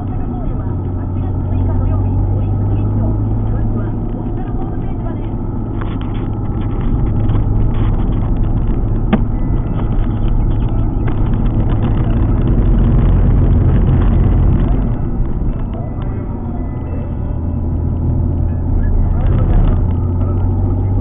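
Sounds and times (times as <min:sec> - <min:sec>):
car engine driving: 0:00.0 - 0:21.0.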